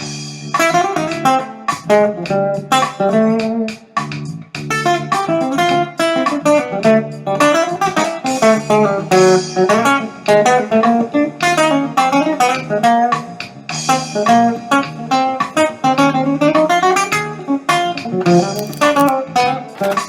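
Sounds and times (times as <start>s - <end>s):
jazz guitar music: 0.2s - 20.0s.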